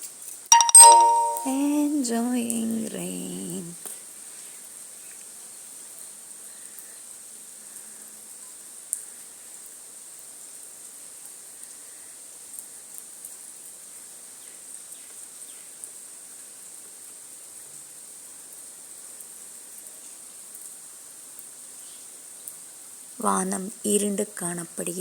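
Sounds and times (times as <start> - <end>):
steady rain hiss: 0.0 - 0.5, 1.8 - 25.0.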